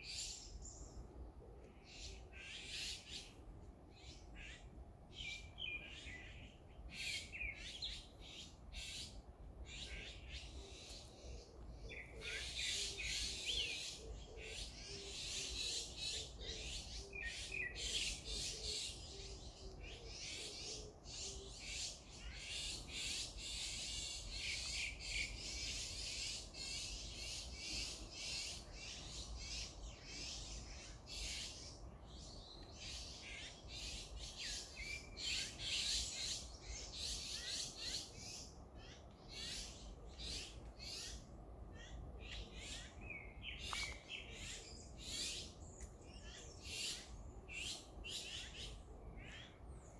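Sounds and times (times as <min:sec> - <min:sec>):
wild birds chirping: 0:00.0 - 0:49.9.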